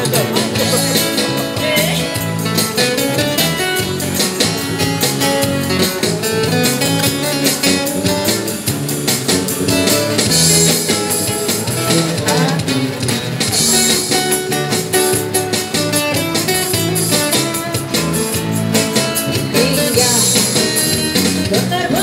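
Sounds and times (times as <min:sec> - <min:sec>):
guitar melody: 0:00.0 - 0:22.0
street band playing: 0:00.0 - 0:22.0.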